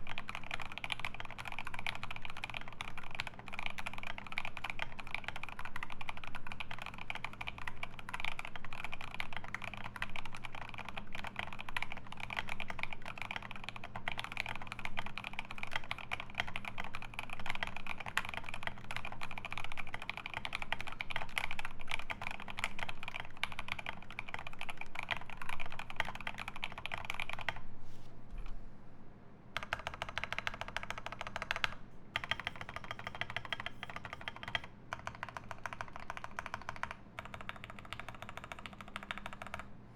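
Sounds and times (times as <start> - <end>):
fast typing on mechanical keyboard: 0.0 - 27.6, 29.6 - 39.7.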